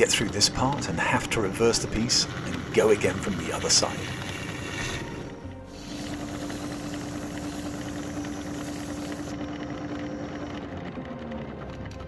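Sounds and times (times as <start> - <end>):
turning tool cutting: 0.0 - 11.9
wood lathe humming: 0.0 - 12.0.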